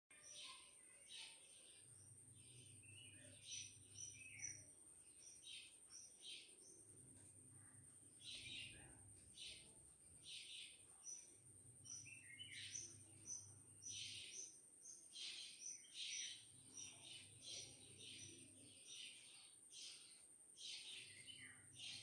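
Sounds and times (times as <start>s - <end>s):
faint birds chirping: 0.1s - 22.0s
faint low hum: 0.2s - 22.0s.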